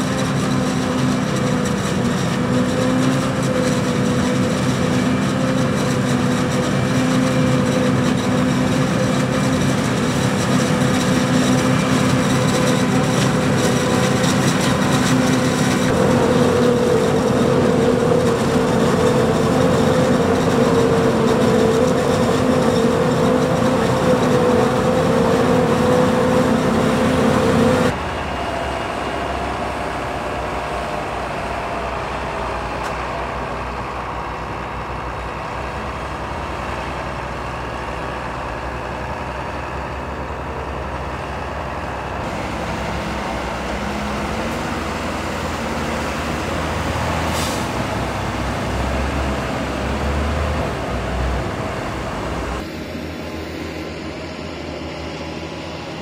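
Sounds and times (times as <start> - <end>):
harvester engine and chopper drone: 0.0 - 56.0
tractor engine: 0.0 - 56.0.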